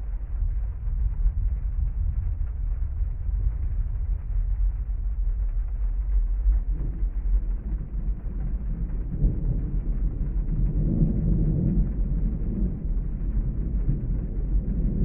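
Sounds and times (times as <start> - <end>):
constant low rumble: 0.0 - 15.0
deep rolling rumble: 0.0 - 15.0
steady rain: 0.0 - 15.0.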